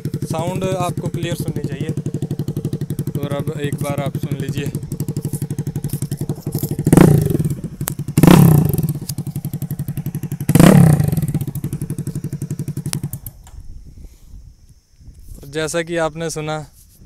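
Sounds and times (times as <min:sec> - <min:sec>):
motorcycle engine idling and revving: 0:00.0 - 0:14.6.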